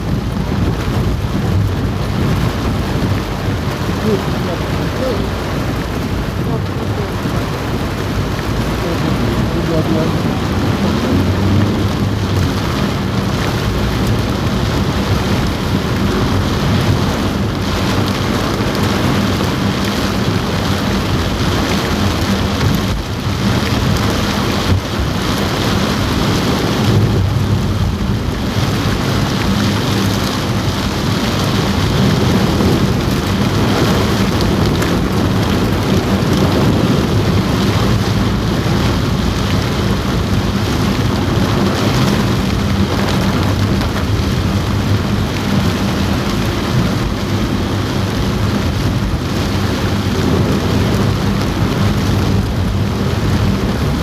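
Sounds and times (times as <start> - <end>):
heavy rain on car roof: 0.0 - 54.0.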